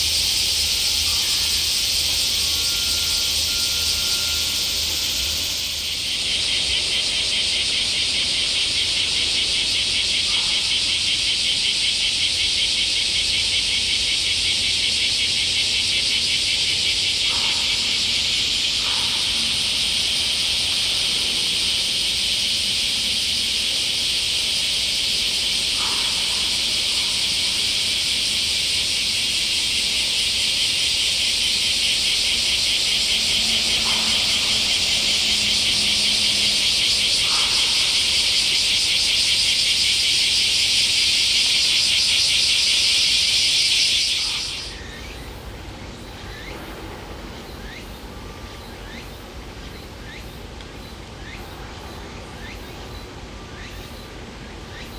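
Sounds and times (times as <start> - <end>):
cicadas buzzing: 0.0 - 54.9.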